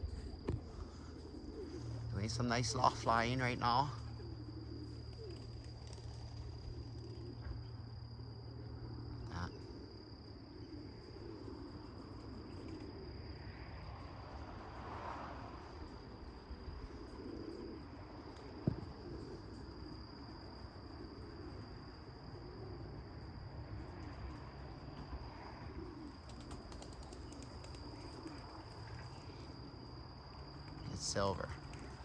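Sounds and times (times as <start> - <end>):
pigeons cooing: 0.0 - 13.3, 16.0 - 29.9.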